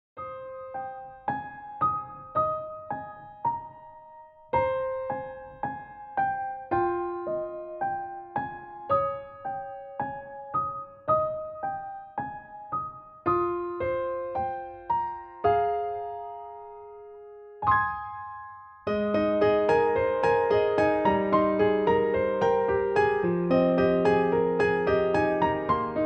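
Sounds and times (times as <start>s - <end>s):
gentle piano melody: 0.2s - 26.0s.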